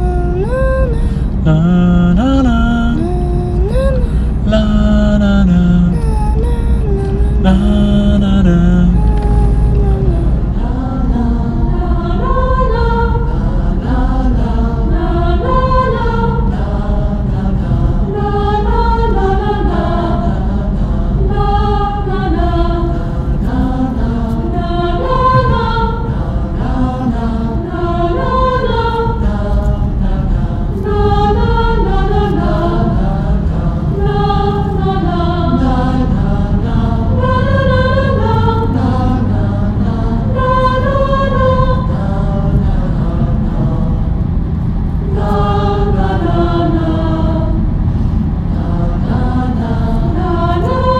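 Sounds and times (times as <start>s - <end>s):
choral singing: 0.0s - 50.9s
low drone: 0.0s - 50.9s.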